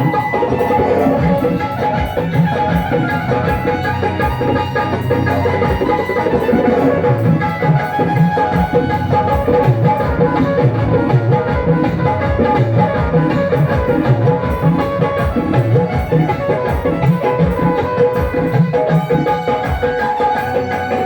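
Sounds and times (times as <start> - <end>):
drums keeping steady beat: 0.0 - 21.0.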